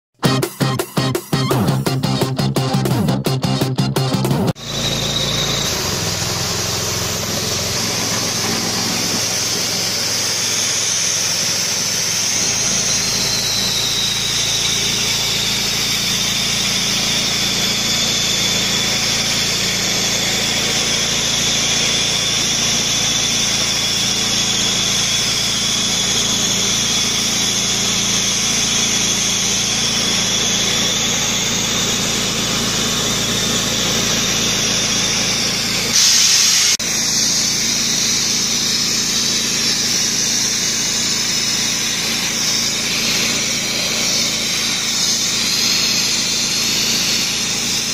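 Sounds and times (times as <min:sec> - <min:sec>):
sandblaster hissing: 0:04.5 - 0:47.9
thin high whistle: 0:04.6 - 0:47.9.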